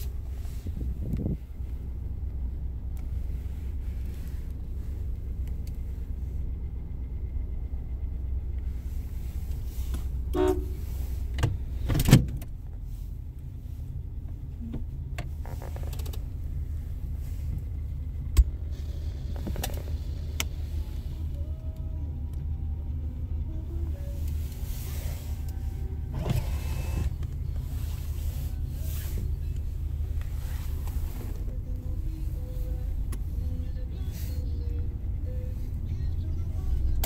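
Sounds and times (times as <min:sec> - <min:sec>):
car engine and tyres rumbling: 0:00.0 - 0:37.0.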